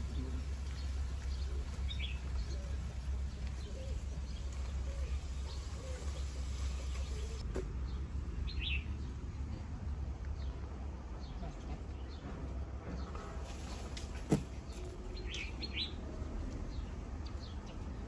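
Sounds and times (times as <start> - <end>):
small birds chirping: 0.0 - 9.3, 10.3 - 18.0
steady low rumble: 0.0 - 18.0.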